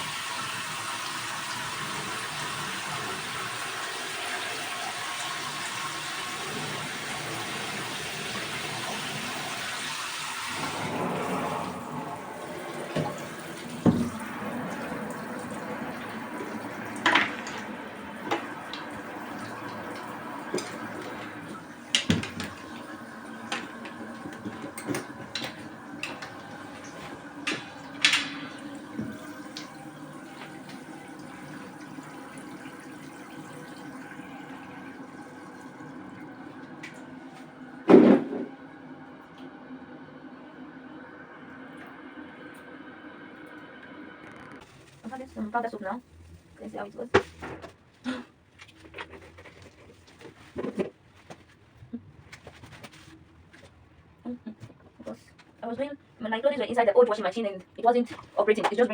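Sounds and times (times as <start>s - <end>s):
water running into a tub: 0.0s - 50.9s.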